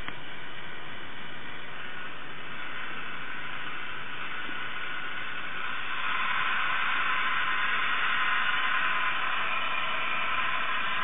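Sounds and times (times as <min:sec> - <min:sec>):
small electric motor whirring: 0:01.6 - 0:11.0.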